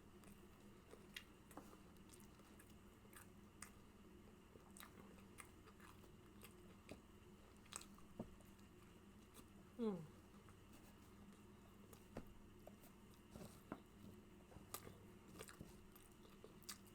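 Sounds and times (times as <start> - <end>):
low room hum: 0.0 - 16.9
chewing and mouth smacking: 0.2 - 9.6, 11.2 - 16.9.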